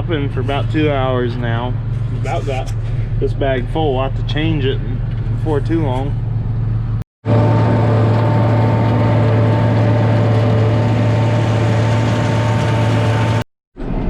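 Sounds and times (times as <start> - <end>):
diesel engine running: 0.0 - 13.4.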